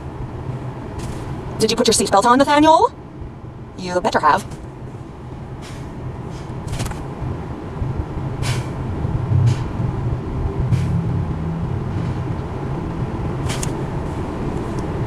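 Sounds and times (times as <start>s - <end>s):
car engine rumble inside cabin: 0.0s - 15.0s.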